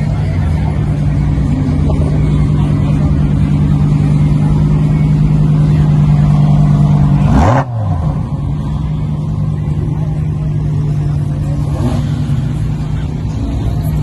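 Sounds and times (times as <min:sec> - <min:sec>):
car engine droning at high revs: 0:00.0 - 0:14.0.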